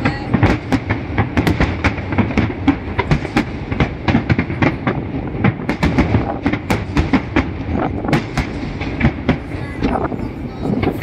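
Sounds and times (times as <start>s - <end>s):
continuous low rumble: 0.0s - 11.0s
fireworks bangs: 0.0s - 11.0s.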